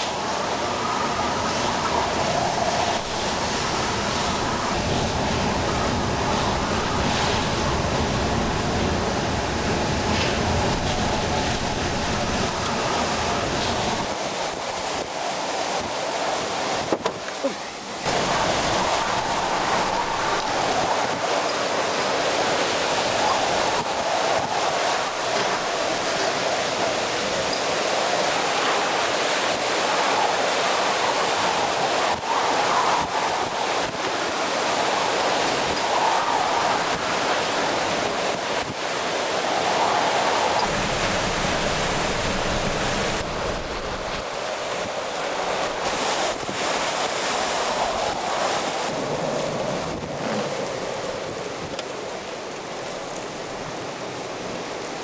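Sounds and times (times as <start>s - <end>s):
hurricane wind rushing: 0.0s - 55.0s.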